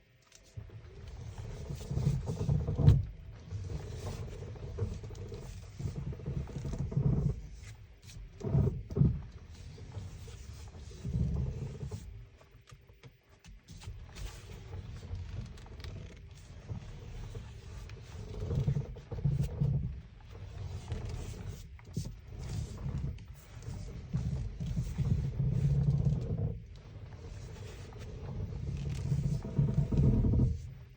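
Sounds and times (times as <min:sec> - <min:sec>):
low steering noise: 0:00.0 - 0:30.9.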